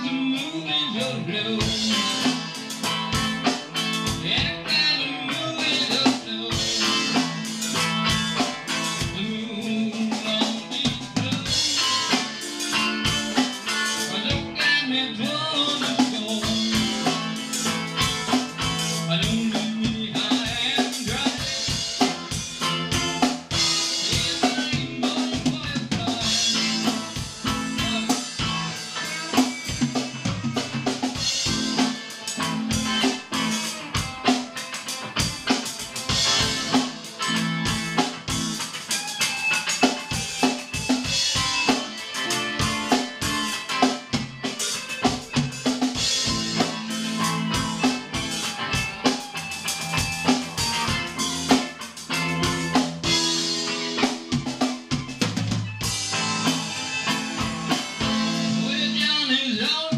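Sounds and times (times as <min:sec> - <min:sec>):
drum kit beating: 0:00.0 - 0:59.9
sustained guitar and bass notes: 0:00.0 - 0:59.9.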